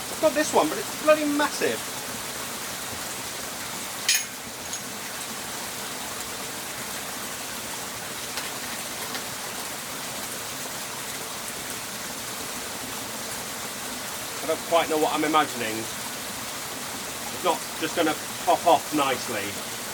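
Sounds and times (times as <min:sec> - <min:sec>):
running water hissing: 0:00.0 - 0:19.9.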